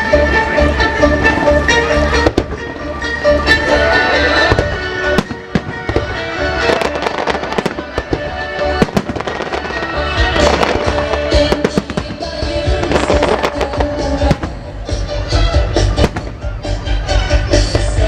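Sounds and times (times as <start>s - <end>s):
fireworks bursting: 0.0s - 18.0s
loud musical-theatre music: 0.0s - 18.0s.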